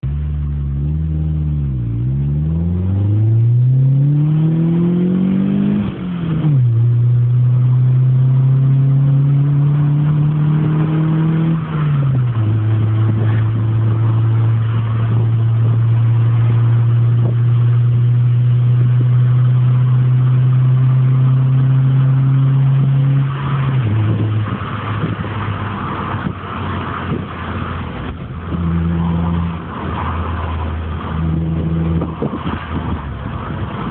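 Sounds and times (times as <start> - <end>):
car engine accelerating: 0.0 - 33.9.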